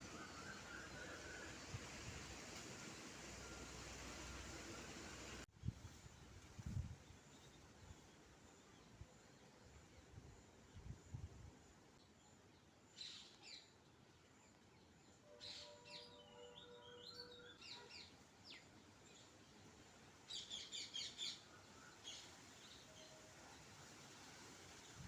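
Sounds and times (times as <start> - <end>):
small birds chirping faintly: 0.0 - 25.0.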